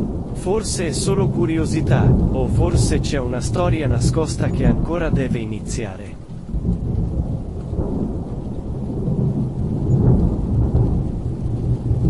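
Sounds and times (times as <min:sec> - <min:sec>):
rain: 0:00.0 - 0:12.0
rolling thunder: 0:00.0 - 0:12.0.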